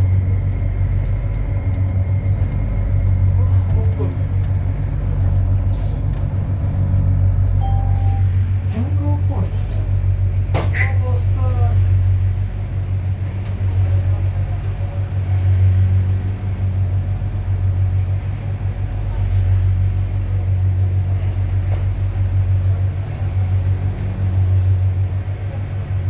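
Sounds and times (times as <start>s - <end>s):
low rumble inside train car: 0.0s - 26.0s.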